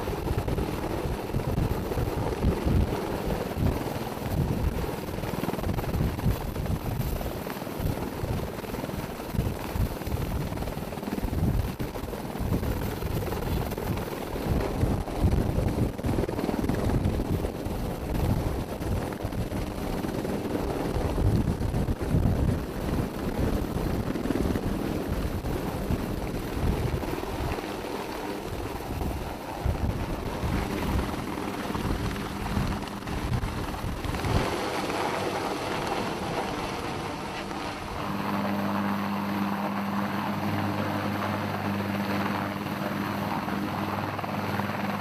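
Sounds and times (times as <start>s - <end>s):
helicopter hovering overhead: 0.0s - 45.0s.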